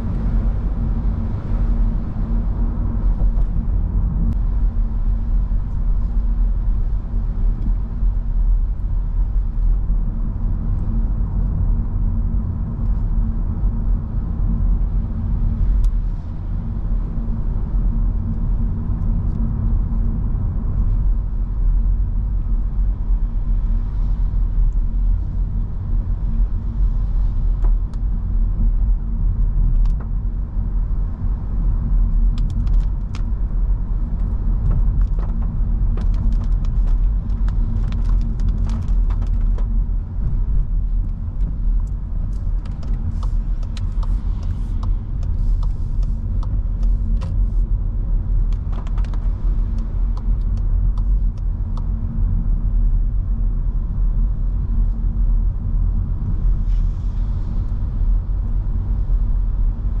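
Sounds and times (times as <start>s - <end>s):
low rumble of tyres and engine: 0.0s - 60.0s.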